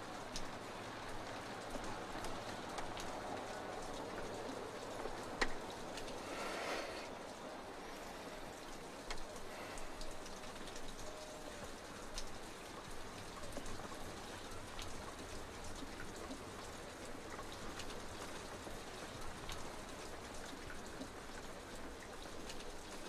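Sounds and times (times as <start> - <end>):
faint steady rain: 0.0 - 23.0.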